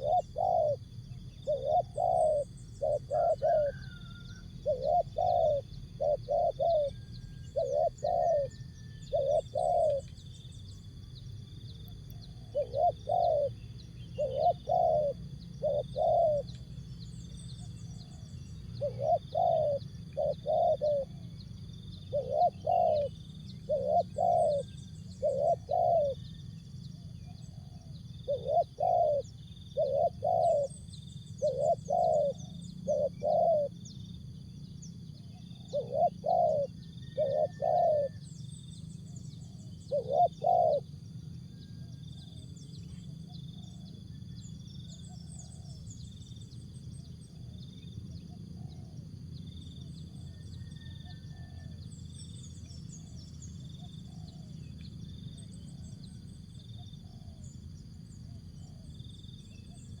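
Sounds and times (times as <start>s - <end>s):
dove cooing: 0.0s - 10.4s, 12.0s - 34.5s, 35.1s - 44.2s, 44.9s - 46.0s, 47.3s - 49.2s, 50.0s - 51.8s, 52.6s - 54.8s, 55.4s - 60.0s
small birds chirping: 0.0s - 60.0s.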